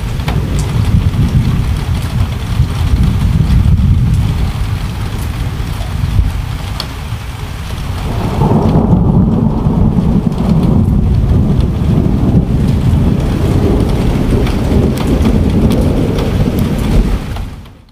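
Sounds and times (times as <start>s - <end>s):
steady rain: 0.0s - 17.9s
thunder rumbling: 0.0s - 17.9s.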